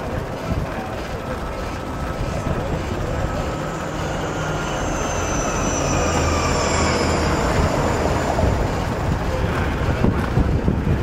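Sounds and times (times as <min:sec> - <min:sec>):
bicycle riding rumble and wind: 0:00.0 - 0:11.0
bus passing with whine: 0:00.0 - 0:11.0.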